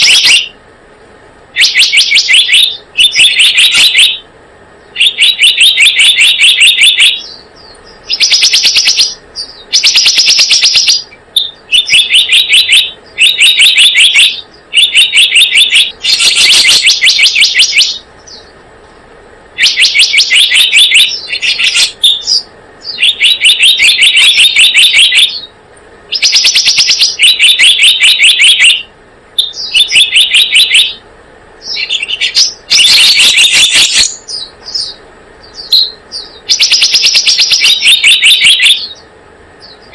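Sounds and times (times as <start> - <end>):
bird chattering trill: 0.0 - 0.6, 1.5 - 18.6, 19.6 - 31.0, 31.6 - 39.9.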